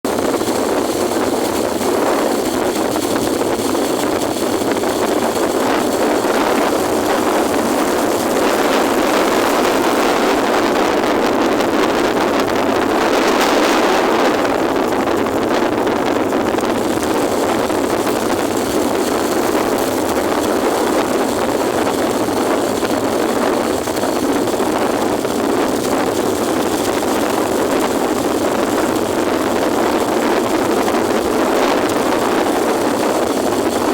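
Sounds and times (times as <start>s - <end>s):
wind rushing over microphone: 0.0s - 33.9s
motorcycle engine running: 0.1s - 33.9s.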